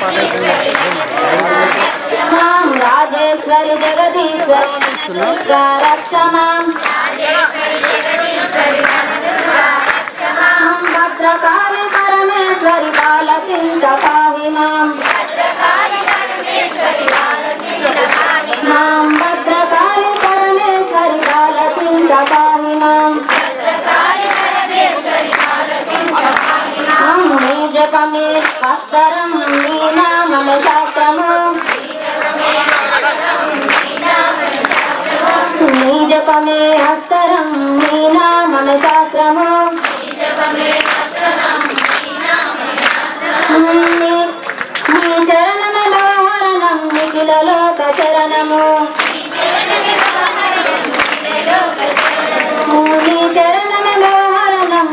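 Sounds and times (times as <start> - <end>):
hand claps: 0.0 - 54.9
women singing together: 0.0 - 54.9.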